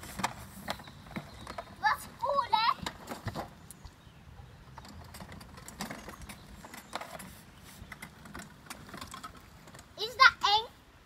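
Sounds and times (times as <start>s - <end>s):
go-kart wheels clicking and rattling: 0.0s - 10.7s.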